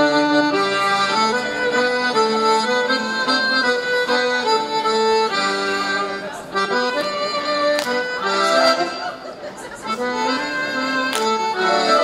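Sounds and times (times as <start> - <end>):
accordion playing folk dance tune: 0.0 - 12.0.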